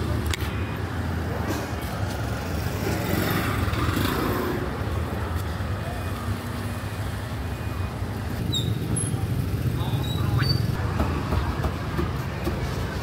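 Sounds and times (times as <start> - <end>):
faint voices of passers-by: 0.0 - 13.0
motor traffic: 0.0 - 13.0.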